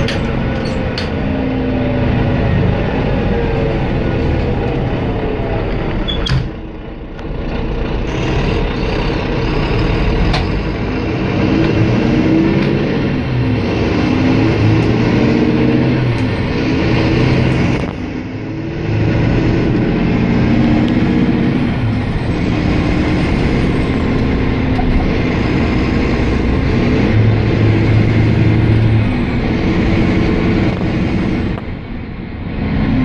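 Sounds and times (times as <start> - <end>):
diesel coach engine running: 0.0 - 33.0
road noise: 0.0 - 33.0.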